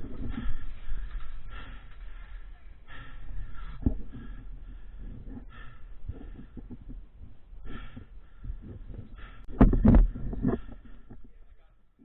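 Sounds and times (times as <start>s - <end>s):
person breathing: 0.0s - 7.0s, 7.6s - 11.2s.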